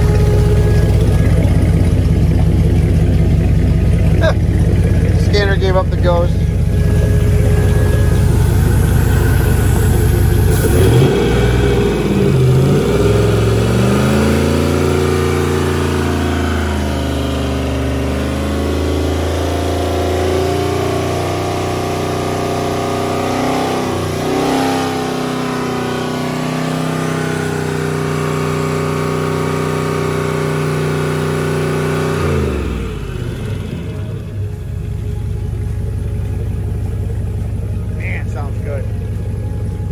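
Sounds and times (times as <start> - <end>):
boat engine revving: 0.0 - 39.9.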